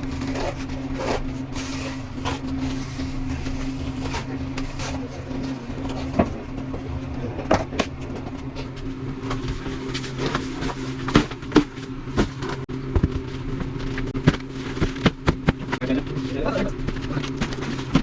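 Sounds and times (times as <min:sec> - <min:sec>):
machine hum: 0:00.0 - 0:18.0
scraping and knocking: 0:00.0 - 0:18.0.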